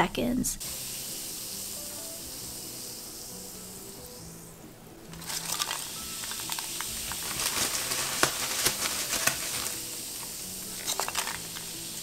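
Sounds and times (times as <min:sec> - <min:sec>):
foam dissolving hiss: 0:00.6 - 0:12.0.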